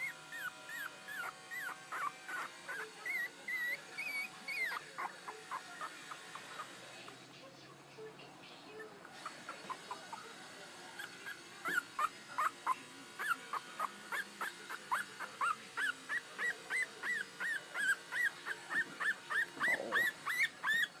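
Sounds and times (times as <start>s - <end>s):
puppy whimpering and yelping: 0.0s - 6.8s, 8.8s - 10.4s, 11.0s - 21.0s.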